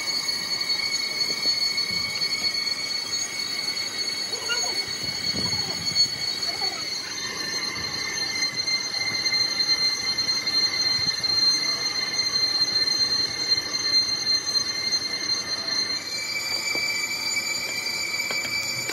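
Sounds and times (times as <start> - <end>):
high-pitched metallic squeal: 0.0 - 18.9.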